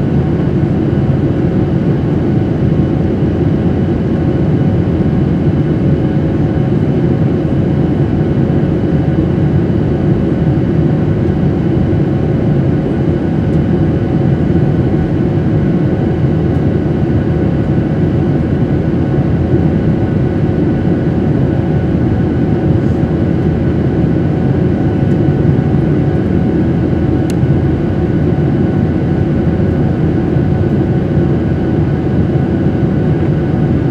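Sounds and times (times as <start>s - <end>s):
air rushing along fuselage: 0.0s - 33.9s
jet engines droning: 0.0s - 33.9s.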